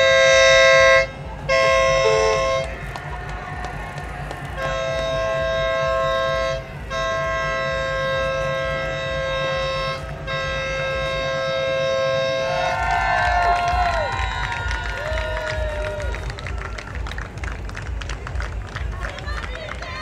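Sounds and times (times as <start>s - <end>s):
two-tone horn blasts: 0.0s - 16.2s.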